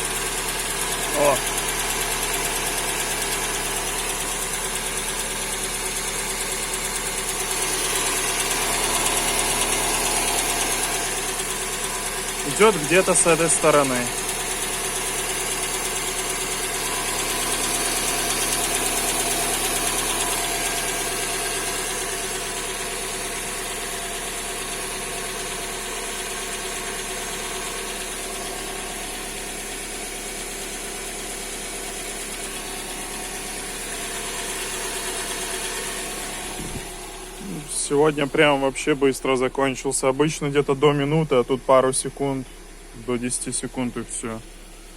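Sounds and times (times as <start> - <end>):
engine ticking knock: 0.0 - 40.9
petrol engine running: 0.0 - 44.9.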